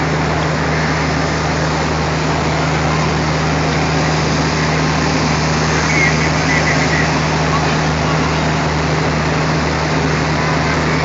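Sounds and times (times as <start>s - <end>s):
diesel locomotive engine droning: 0.0s - 11.0s.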